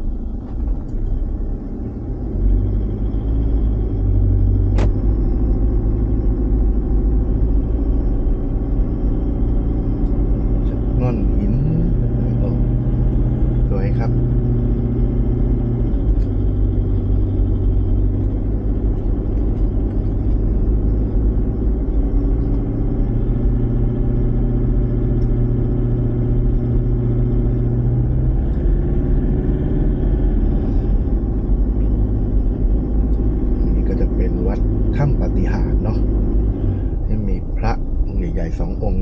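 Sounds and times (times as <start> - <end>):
road noise: 0.0 - 39.0
vehicle engine running: 0.0 - 39.0.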